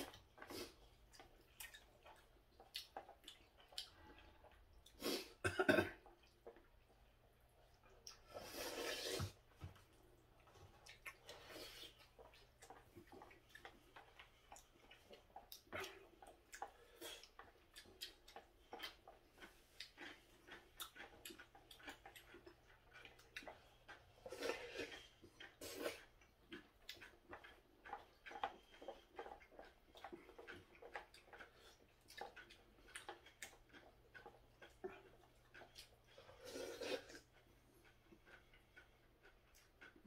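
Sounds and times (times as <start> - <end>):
chewing and lip-smacking: 0.0 - 5.4, 6.0 - 40.0.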